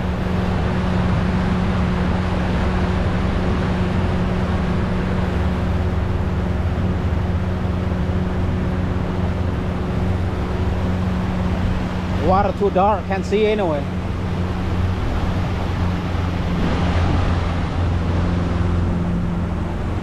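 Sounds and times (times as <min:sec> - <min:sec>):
boat motor humming underwater: 0:00.0 - 0:20.0.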